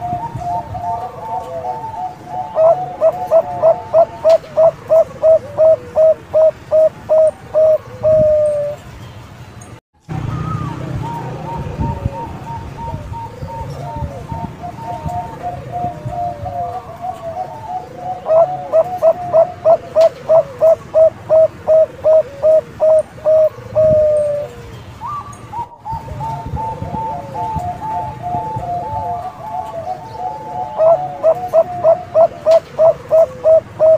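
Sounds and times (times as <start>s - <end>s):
dove cooing: 0.0s - 8.8s, 10.2s - 33.9s.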